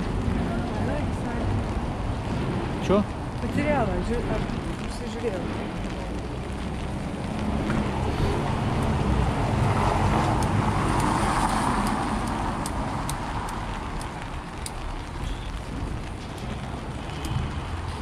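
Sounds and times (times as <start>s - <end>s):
tyre hiss on wet street: 0.0s - 18.0s
vehicle engine rumble: 0.0s - 18.0s.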